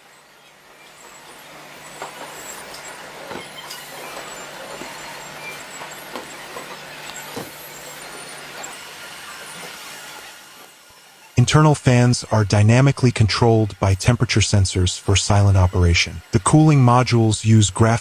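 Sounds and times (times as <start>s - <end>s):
steady mechanical hum and hiss: 0.0s - 18.0s
machinery clicks and clanks: 0.1s - 18.0s.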